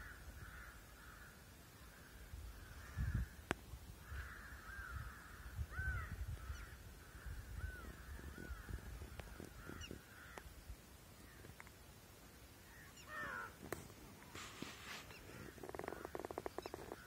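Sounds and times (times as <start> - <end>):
birds calling: 0.0 - 11.8, 12.5 - 17.0.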